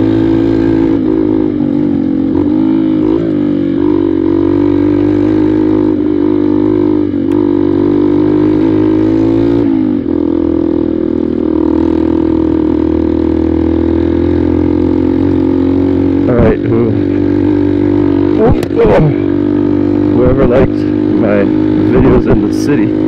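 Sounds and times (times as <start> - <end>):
dirt bike engine cruising: 0.0 - 23.0.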